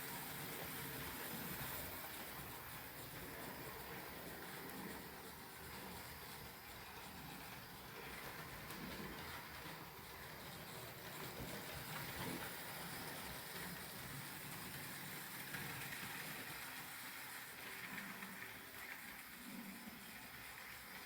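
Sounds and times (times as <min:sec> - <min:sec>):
model train motor whirring: 0:00.0 - 0:21.0
wheels rolling on rails: 0:00.0 - 0:21.0.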